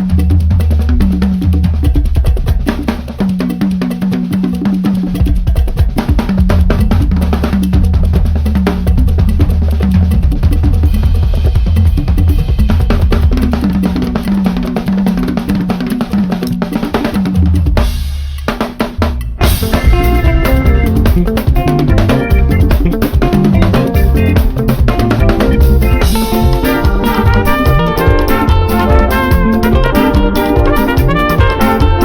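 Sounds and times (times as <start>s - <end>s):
bass line: 0.0s - 3.4s, 4.4s - 15.4s, 17.2s - 32.0s
drum kit playing: 0.0s - 32.0s
highlife band music: 0.0s - 32.0s.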